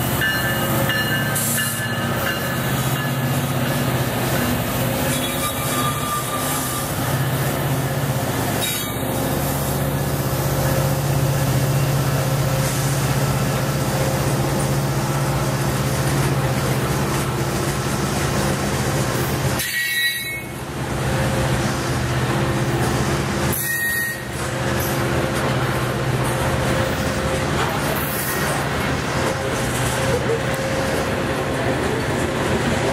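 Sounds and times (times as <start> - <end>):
diesel locomotive passing: 0.0 - 32.9
steel wheels rumbling on rail: 0.0 - 32.9.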